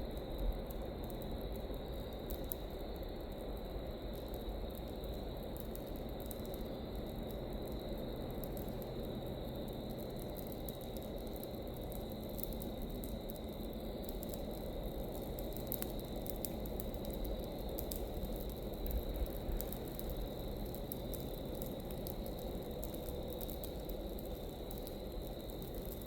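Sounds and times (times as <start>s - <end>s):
burning leaves crackling and popping: 0.0s - 26.0s.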